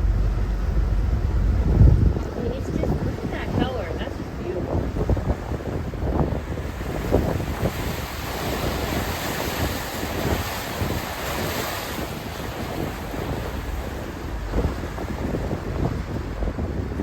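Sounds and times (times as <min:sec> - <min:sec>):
rush of lake water: 0:00.0 - 0:17.0
wind buffeting microphone: 0:00.0 - 0:17.0.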